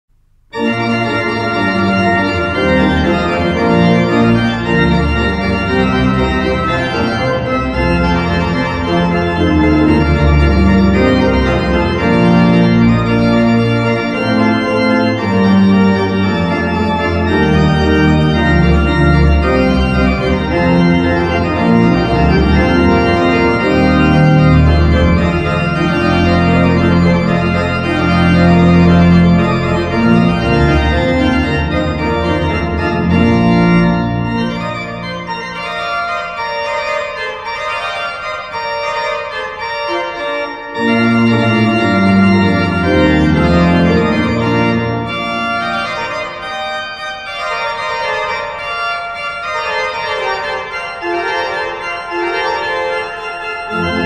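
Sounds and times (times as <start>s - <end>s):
church pipe organ chords: 0.1s - 54.0s.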